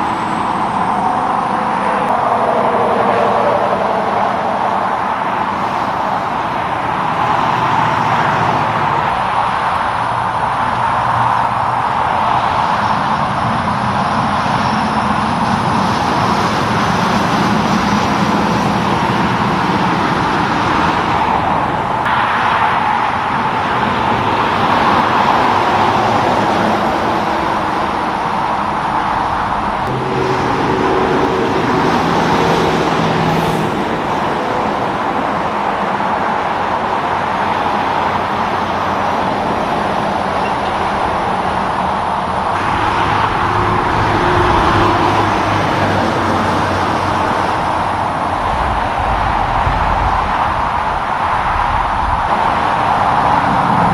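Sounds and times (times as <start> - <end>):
highway traffic: 0.0 - 53.9
vehicle engine hum: 0.0 - 53.9.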